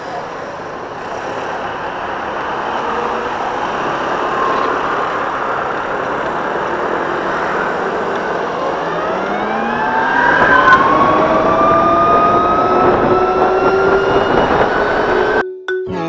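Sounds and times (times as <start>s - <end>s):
wind and road noise: 0.0s - 15.4s
electric scooter motor whining: 0.6s - 15.4s.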